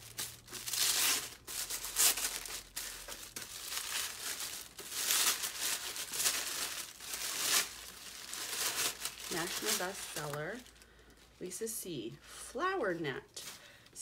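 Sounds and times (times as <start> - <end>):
wrapping crinkling and tearing: 0.0 - 11.4.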